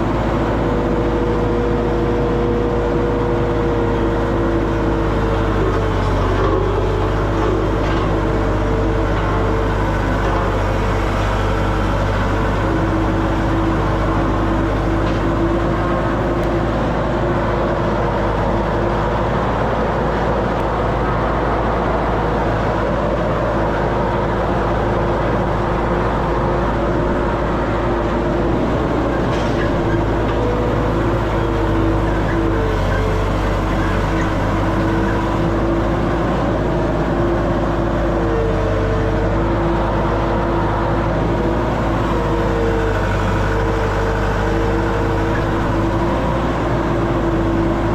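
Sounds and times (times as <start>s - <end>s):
road roller diesel engine running: 0.0s - 47.9s.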